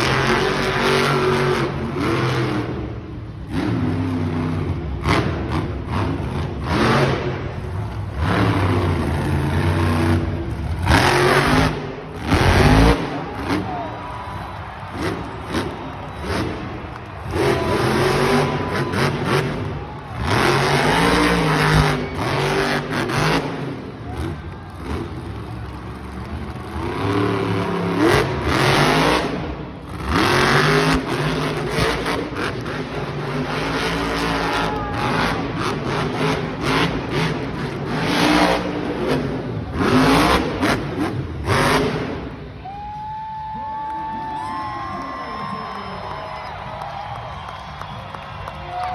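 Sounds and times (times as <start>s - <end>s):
truck engine revving: 0.0s - 42.6s.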